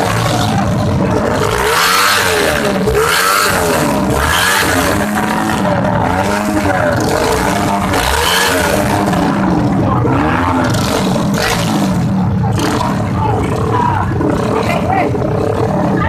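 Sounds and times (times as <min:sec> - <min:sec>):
motorcycle engines revving hard: 0:00.0 - 0:16.0.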